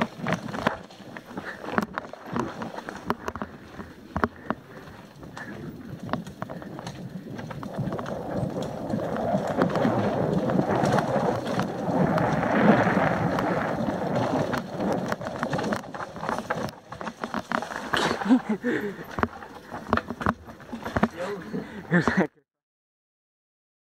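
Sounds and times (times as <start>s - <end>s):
bike knocks and rattles: 0.0s - 22.3s
tyres rolling over dirt and stones: 0.0s - 22.3s.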